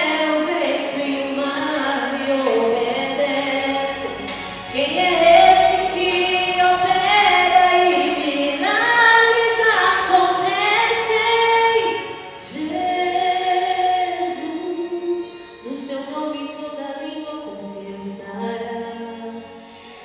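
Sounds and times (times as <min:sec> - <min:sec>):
woman singing into a microphone: 0:00.0 - 0:20.0.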